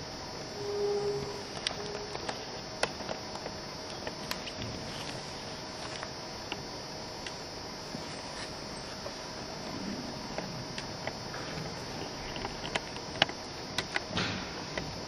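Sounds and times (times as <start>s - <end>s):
background hiss: 0.0s - 15.0s
faint steady hum: 0.0s - 15.0s.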